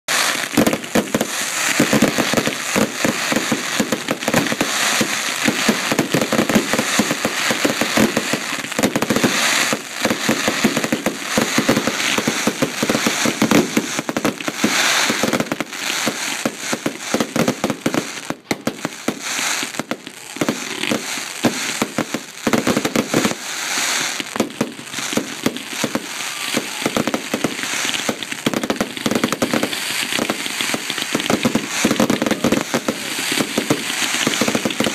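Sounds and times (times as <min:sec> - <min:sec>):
fireworks bangs and pops: 0:00.0 - 0:34.9.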